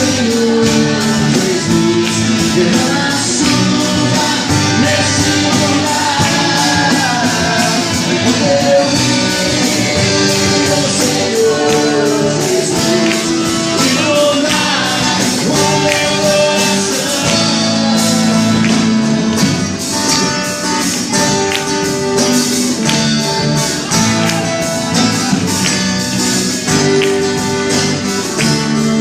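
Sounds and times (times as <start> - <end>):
band playing worship music: 0.0 - 29.0
guitar: 0.0 - 29.0
steady drum beat: 0.0 - 29.0.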